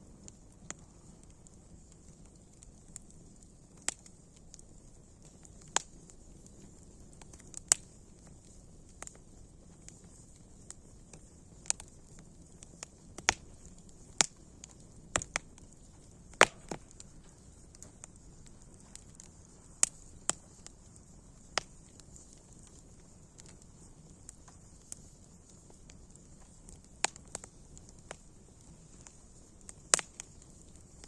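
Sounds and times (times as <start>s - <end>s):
faint steady hiss: 0.0s - 31.0s
wood fire crackling: 0.0s - 31.0s.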